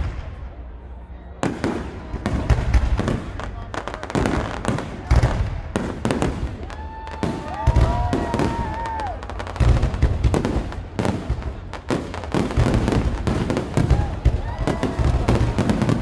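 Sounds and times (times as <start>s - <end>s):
firework crackling: 1.4s - 16.0s.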